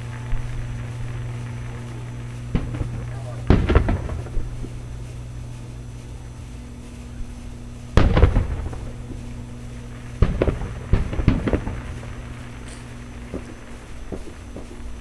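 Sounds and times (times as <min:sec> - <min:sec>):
distant fireworks booming: 0:00.0 - 0:15.0
sharp fireworks bangs: 0:00.0 - 0:15.0
steady low hum: 0:00.0 - 0:15.0.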